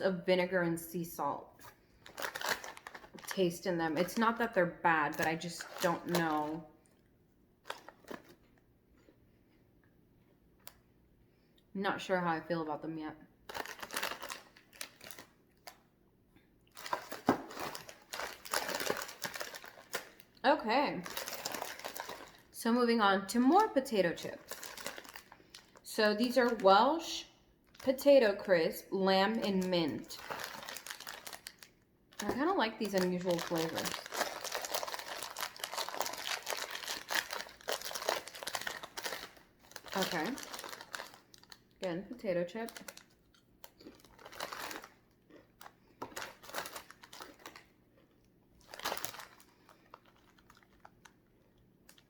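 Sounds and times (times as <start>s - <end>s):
plastic snack packet crinkling: 1.6s - 6.6s, 7.6s - 8.6s, 13.4s - 15.9s, 16.7s - 52.0s.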